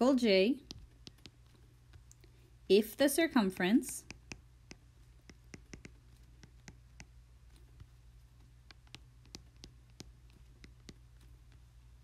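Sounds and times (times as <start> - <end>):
low steady hum: 0.0 - 12.0
stylus tapping on tablet screen: 0.6 - 2.2, 3.5 - 11.7.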